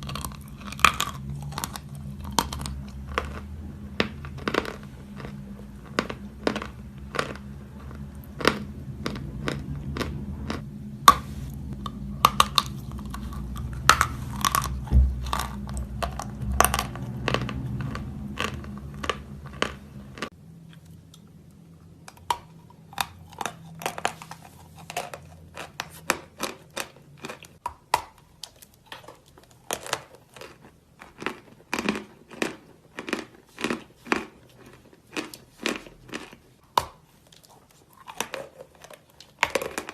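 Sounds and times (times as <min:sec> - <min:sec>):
chalk crunching while chewing: 0:00.0 - 0:21.3, 0:22.0 - 0:39.9
low background hum: 0:00.0 - 0:39.9.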